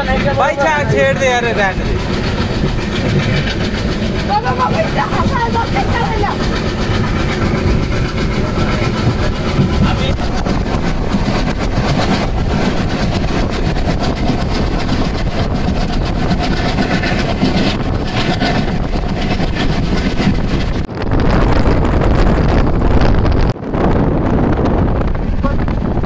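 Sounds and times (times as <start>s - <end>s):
train wheels on rails: 0.0s - 23.6s.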